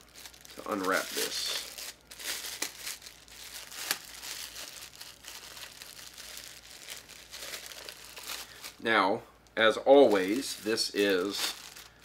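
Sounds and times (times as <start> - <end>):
plastic wrapping crinkling: 0.0 - 8.9, 9.5 - 12.0.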